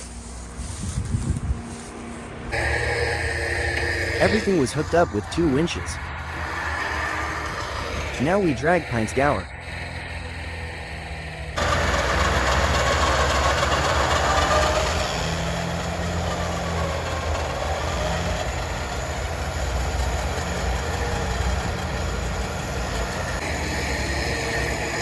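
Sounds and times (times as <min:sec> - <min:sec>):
engines and winches running: 0:00.0 - 0:25.0.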